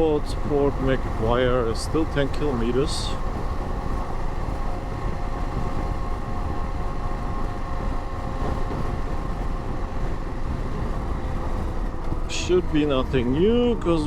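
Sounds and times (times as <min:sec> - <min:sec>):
motorcycle engine drone: 0:00.0 - 0:14.0
wind rumble against helmet: 0:00.0 - 0:14.0.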